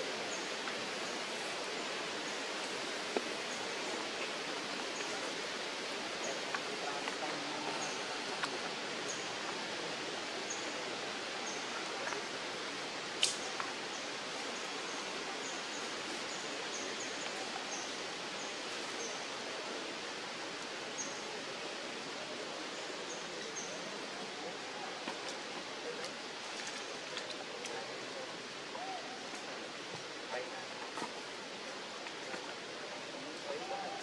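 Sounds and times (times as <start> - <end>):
outdoor background hiss: 0.0 - 34.0.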